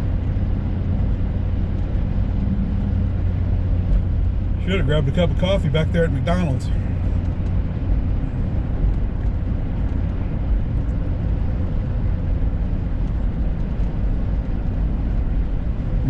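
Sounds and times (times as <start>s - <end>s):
truck cruising on road: 0.0s - 16.0s.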